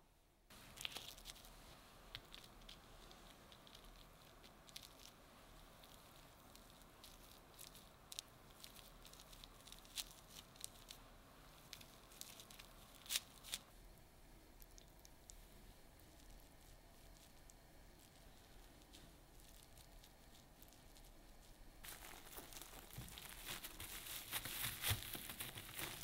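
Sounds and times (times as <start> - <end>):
sticky rice soft crackles: 0.5 - 26.0.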